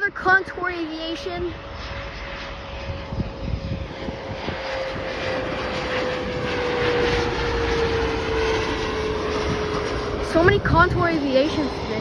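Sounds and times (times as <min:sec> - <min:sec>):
jet engine whine: 0:00.0 - 0:12.0.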